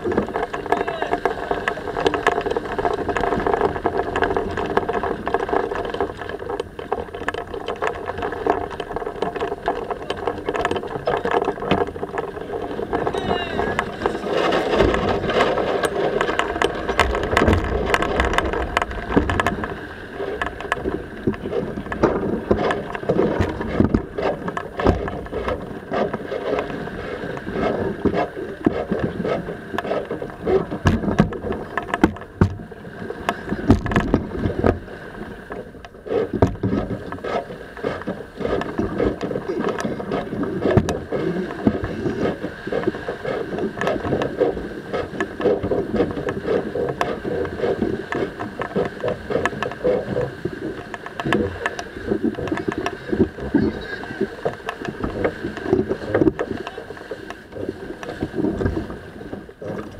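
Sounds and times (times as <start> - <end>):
wind and water rushing past hull: 0.0 - 59.9.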